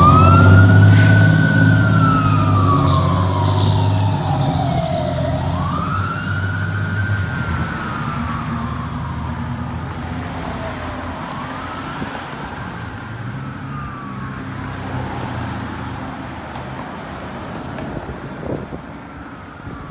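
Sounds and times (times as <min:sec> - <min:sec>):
fire engine siren wailing: 0:00.0 - 0:19.9
road traffic: 0:00.0 - 0:19.9.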